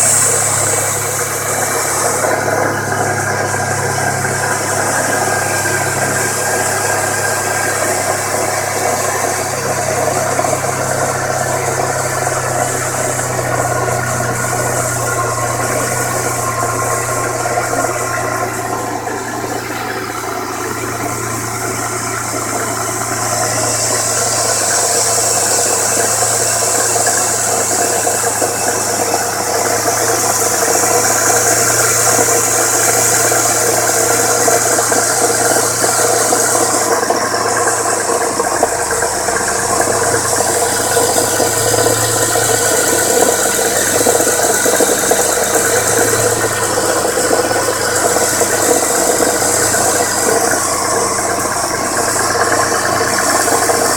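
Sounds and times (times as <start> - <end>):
engine knocking rattle: 0.0 - 53.9
low engine hum: 0.0 - 53.9.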